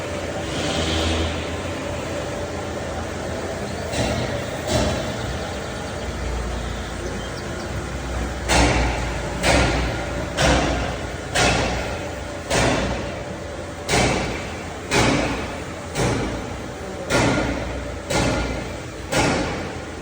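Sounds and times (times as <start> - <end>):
heavy knocks: 3.9 - 20.0.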